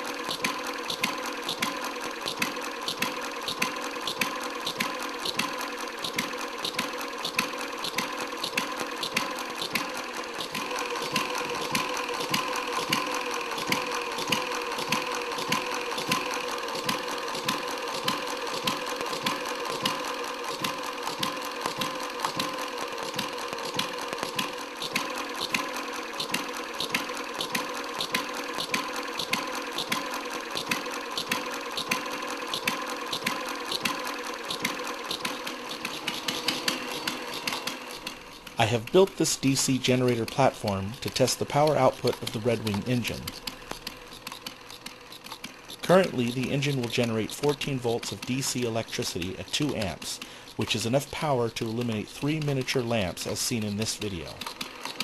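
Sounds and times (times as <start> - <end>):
sharp engine clicks: 0.0 - 55.0
small engine clattering: 0.0 - 55.0.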